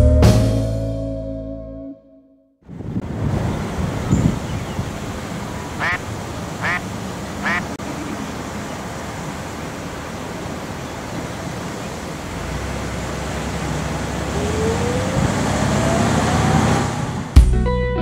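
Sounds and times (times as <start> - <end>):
car road and engine noise: 2.7 - 17.4.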